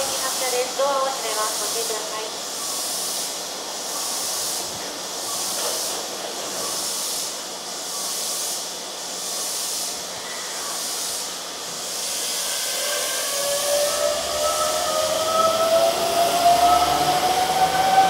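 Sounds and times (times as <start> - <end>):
electric train high hiss: 0.0 - 18.0.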